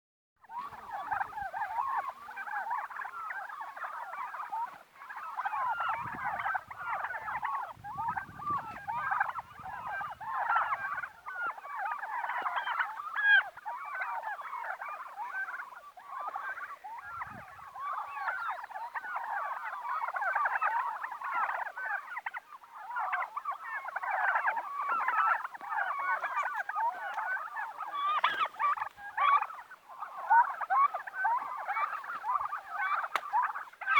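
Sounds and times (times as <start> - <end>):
turkeys calling: 0.4 - 33.9.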